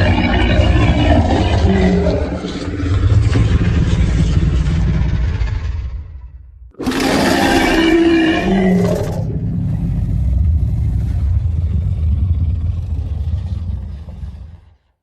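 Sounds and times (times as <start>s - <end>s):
monster roar: 0.0s - 5.6s, 6.8s - 14.9s
long low rumble: 0.0s - 6.8s, 8.6s - 14.8s.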